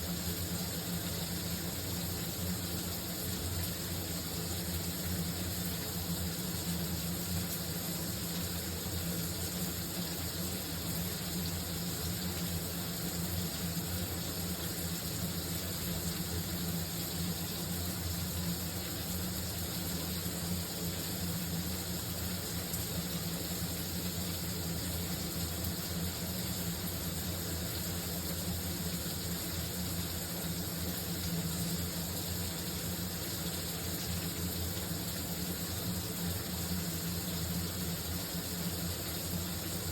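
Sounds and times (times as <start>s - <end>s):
shower running: 0.0s - 39.9s.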